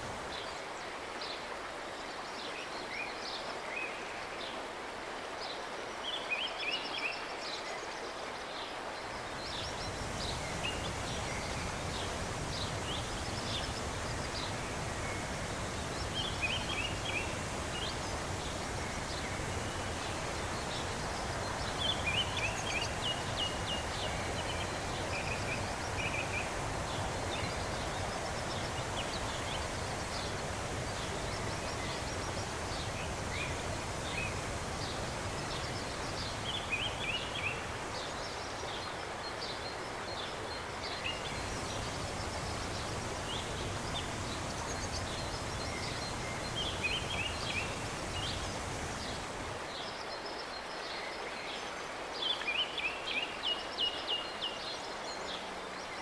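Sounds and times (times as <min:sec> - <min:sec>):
river water rushing: 0:00.0 - 0:56.0
songbird chirping: 0:05.5 - 0:56.0.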